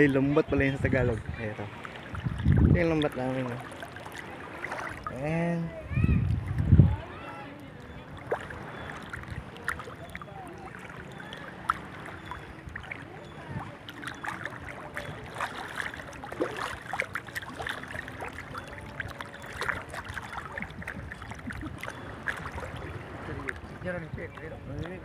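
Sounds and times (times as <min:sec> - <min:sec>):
seawater splashing around wading legs: 0:00.0 - 0:25.0.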